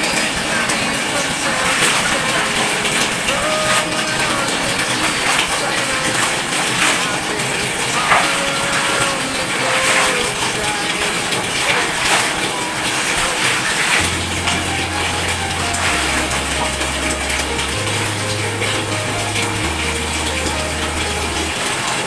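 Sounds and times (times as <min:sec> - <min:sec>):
wet clothes scrubbed in water: 0:00.0 - 0:22.0.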